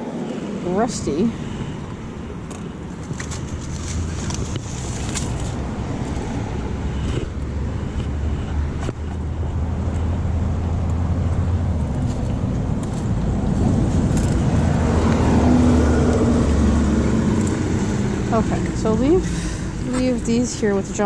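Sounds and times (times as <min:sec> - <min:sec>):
road traffic rumble: 0:00.0 - 0:21.0
wind buffeting microphone: 0:00.0 - 0:21.0.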